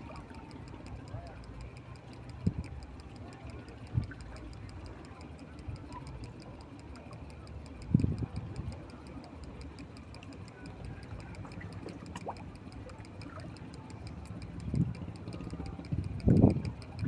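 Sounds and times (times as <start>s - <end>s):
faint even ticking: 0.0s - 17.0s.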